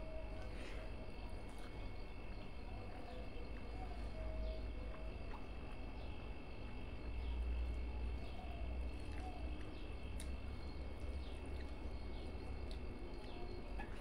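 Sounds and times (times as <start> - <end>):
constant low rumble: 0.0 - 14.0
small birds chirping: 0.0 - 14.0.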